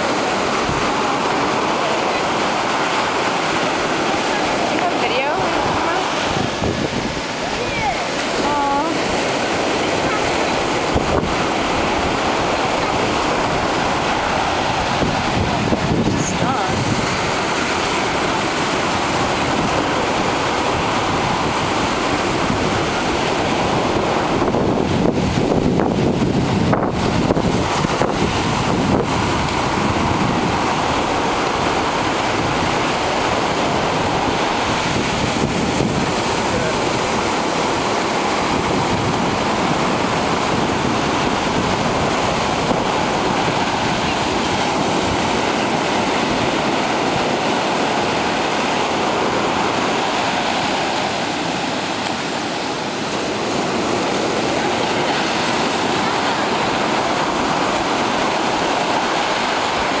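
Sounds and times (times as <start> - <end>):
surf washing over sand: 0.0 - 60.0
wind on microphone: 0.0 - 60.0.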